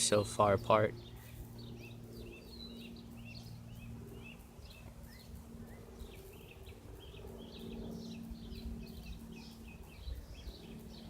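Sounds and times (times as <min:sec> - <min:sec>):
faint low hum: 0:00.0 - 0:11.0
small birds chirping: 0:00.0 - 0:11.0.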